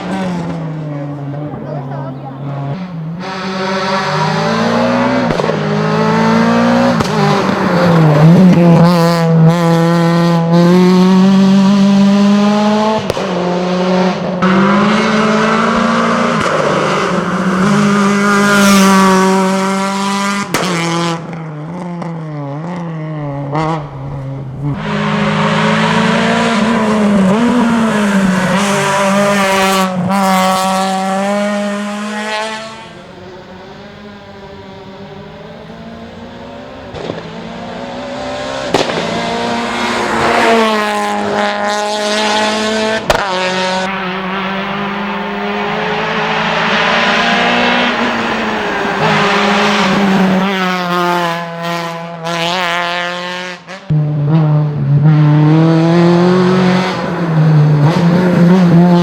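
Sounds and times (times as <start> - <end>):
rally car engine at high revs: 0.0 - 59.0.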